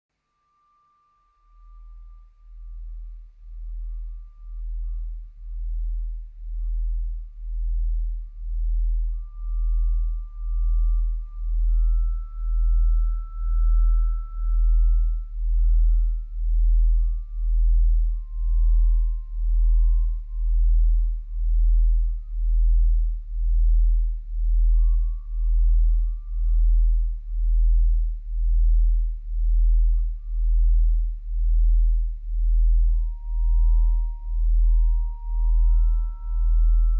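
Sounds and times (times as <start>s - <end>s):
thin high sine tone: 0.1s - 36.9s
pulsing low drone: 1.5s - 36.9s.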